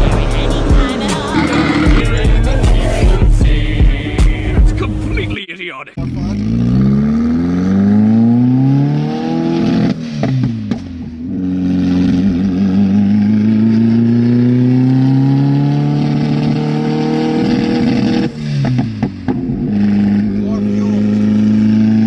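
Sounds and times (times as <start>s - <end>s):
car engine accelerating: 0.0s - 5.3s, 6.0s - 22.0s.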